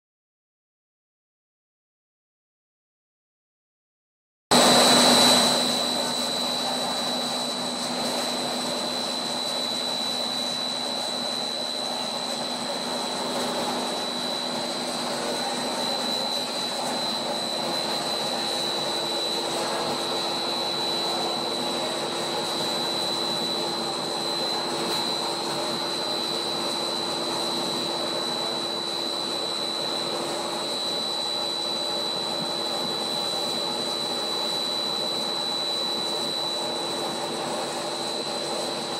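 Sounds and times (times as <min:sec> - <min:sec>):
high machine whine: 0:04.5 - 0:38.9.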